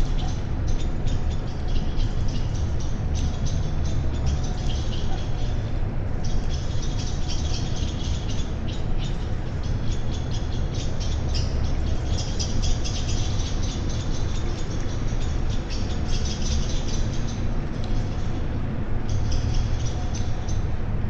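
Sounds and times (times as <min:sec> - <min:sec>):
small birds chirping: 0:00.0 - 0:20.8.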